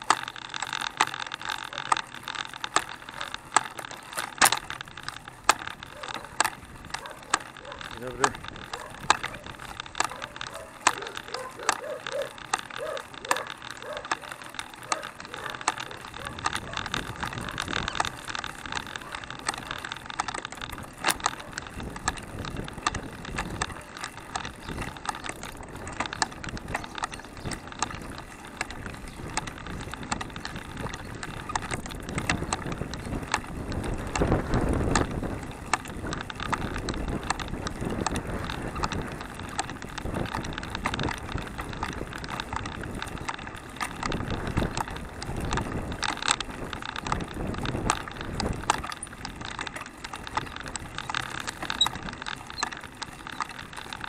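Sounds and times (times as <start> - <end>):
chain rattling and clicking: 0.0 - 54.0
tyre noise on asphalt: 0.0 - 54.0.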